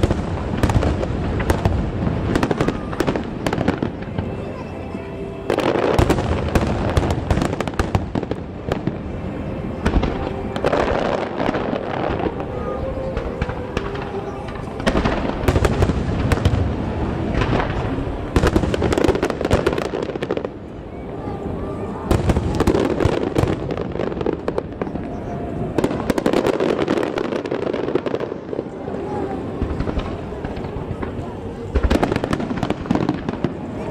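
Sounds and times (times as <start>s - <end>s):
firework bangs: 0.0s - 20.7s, 22.0s - 28.8s, 29.4s - 33.9s
fireworks crackling: 0.0s - 33.9s.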